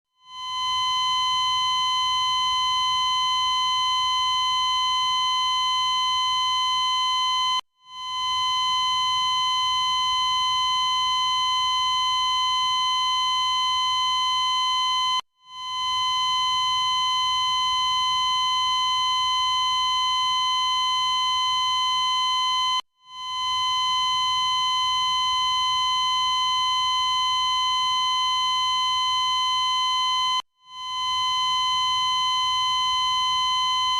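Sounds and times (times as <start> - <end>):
cardiac monitor tone: 0.2 - 33.9.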